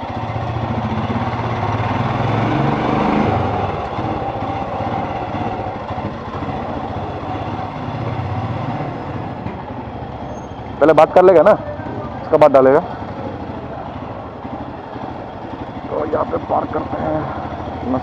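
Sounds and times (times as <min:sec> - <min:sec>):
motorcycle engine at low speed: 0:00.0 - 0:18.0.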